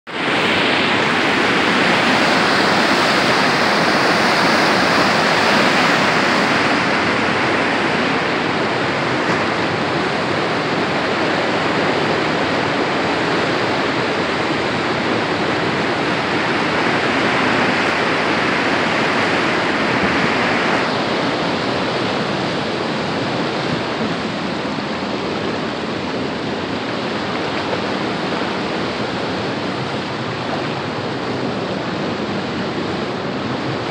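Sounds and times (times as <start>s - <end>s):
rushing water roar: 0.1s - 33.9s.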